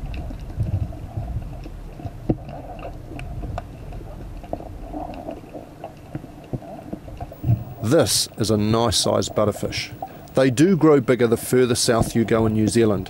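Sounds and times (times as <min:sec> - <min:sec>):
underwater crackling clicks: 0:00.0 - 0:08.4, 0:09.0 - 0:10.5, 0:11.7 - 0:13.0
muffled underwater rumble: 0:00.0 - 0:13.0.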